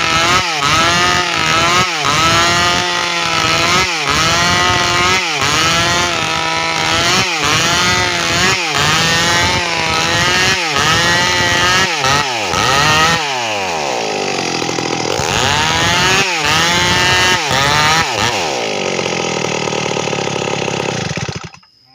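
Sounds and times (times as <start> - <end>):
chainsaw cutting log: 0.0 - 21.7.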